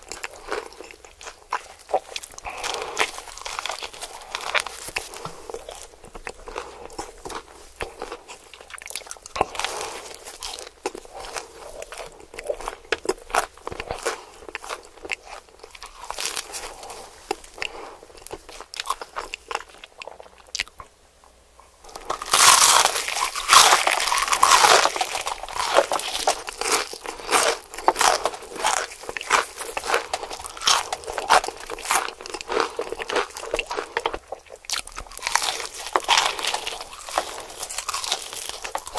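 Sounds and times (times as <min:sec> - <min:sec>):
crunching fried chicken: 0:00.0 - 0:20.9, 0:21.8 - 0:38.9.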